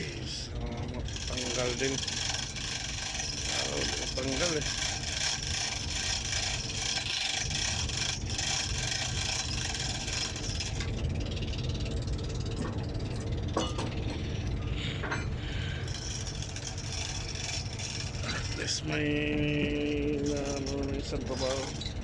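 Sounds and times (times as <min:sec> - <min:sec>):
low machinery rumble: 0:00.0 - 0:22.0.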